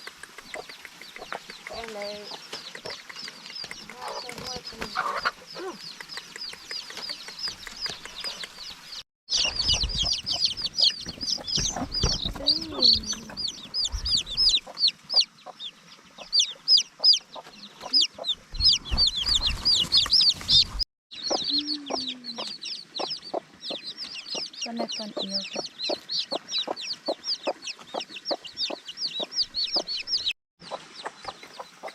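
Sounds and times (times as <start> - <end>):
chickens peeping and clucking: 0.0 - 31.9.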